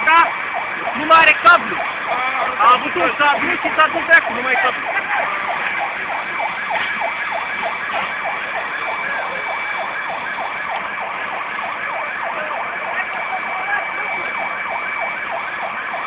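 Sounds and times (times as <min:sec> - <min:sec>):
emergency siren sweeping: 0:00.0 - 0:16.0.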